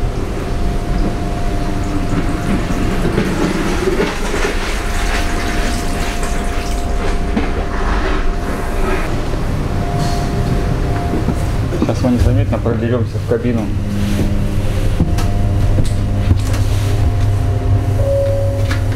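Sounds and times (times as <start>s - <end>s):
train low rumble: 0.0s - 18.9s.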